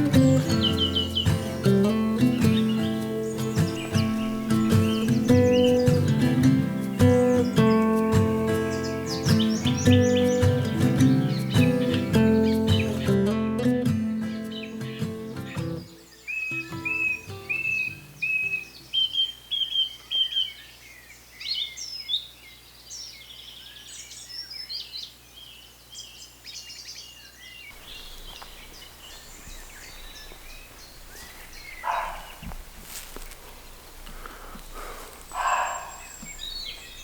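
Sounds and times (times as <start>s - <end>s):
birds whistling and chirping: 0.0s - 13.2s, 14.2s - 25.1s, 26.0s - 33.0s, 33.6s - 37.0s.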